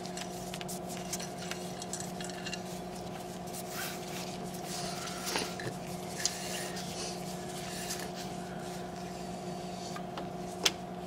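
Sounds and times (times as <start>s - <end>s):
faint rubbing and handling noise: 0.0s - 10.6s
steady low hum: 0.0s - 11.0s.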